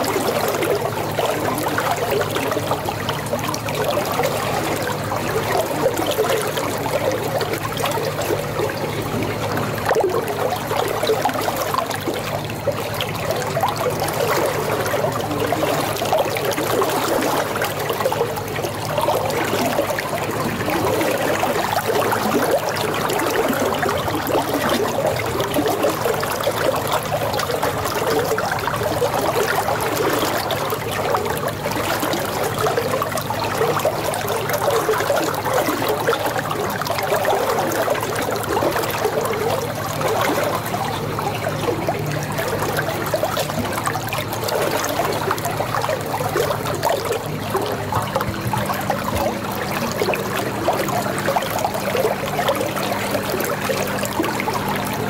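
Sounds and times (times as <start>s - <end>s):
water trickling and gurgling: 0.0s - 55.0s.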